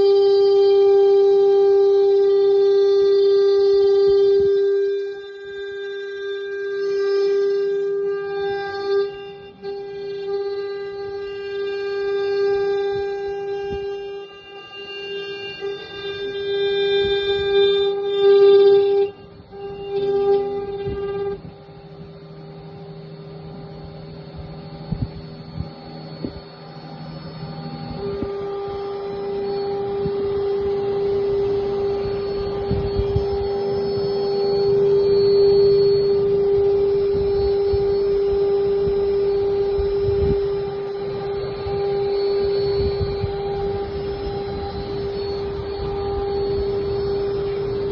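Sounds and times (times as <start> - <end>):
engraving machine spindle whine: 0.0 - 47.9.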